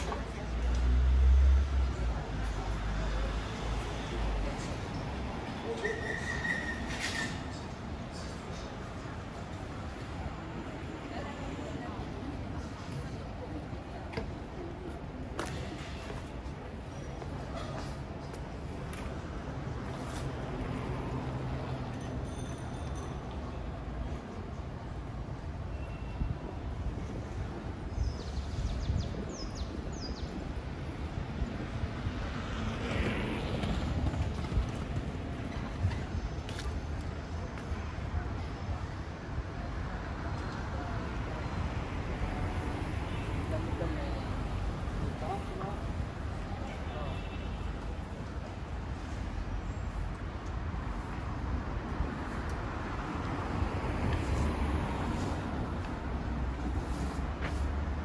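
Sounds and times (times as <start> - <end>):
low traffic rumble: 0.0 - 58.0.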